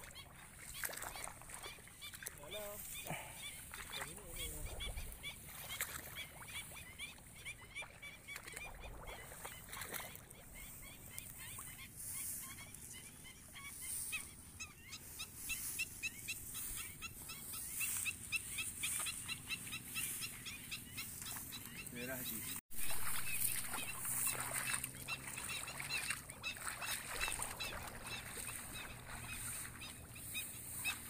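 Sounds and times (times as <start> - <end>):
birds yapping calls: 0.0 - 31.0.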